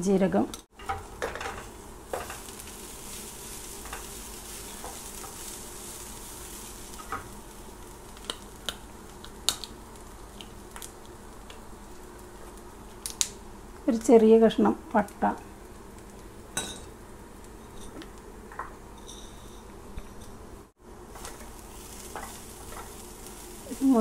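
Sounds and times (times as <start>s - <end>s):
coconut frying in oil: 0.6s - 24.0s.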